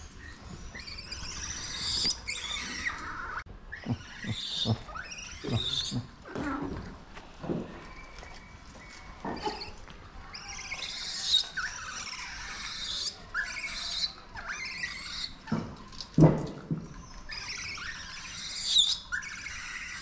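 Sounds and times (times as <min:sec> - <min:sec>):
animal chirping and squealing: 0:00.0 - 0:06.8, 0:07.8 - 0:15.6, 0:16.9 - 0:20.0.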